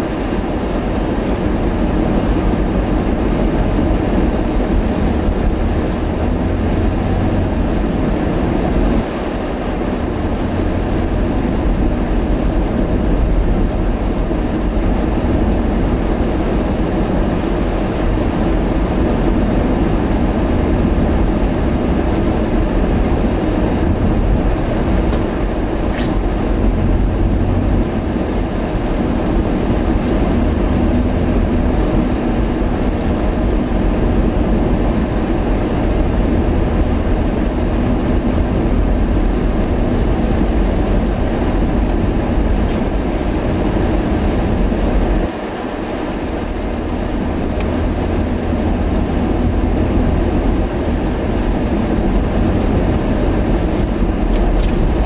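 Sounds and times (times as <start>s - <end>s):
vehicle driving on snowy road: 0.0s - 55.0s.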